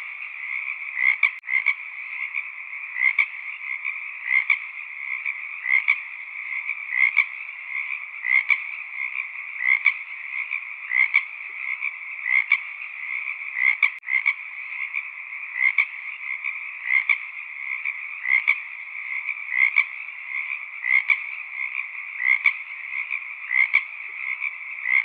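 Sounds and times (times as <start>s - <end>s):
frogs calling in chorus: 0.0s - 25.0s.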